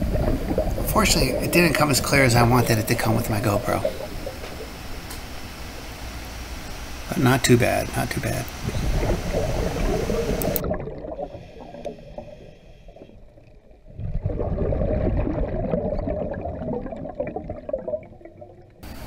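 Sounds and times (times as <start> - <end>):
gurgling exhaled bubbles: 0.0 - 5.1, 8.3 - 18.8.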